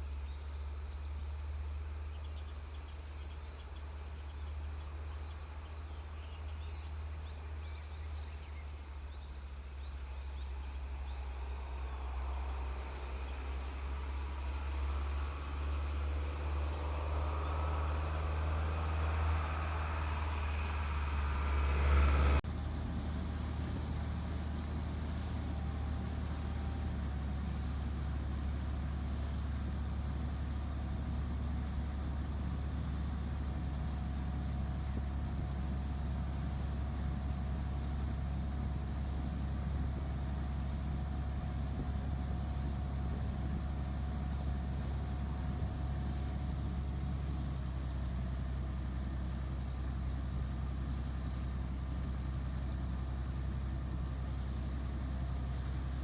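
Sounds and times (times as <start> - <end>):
steady low rumble: 6.2 - 56.0.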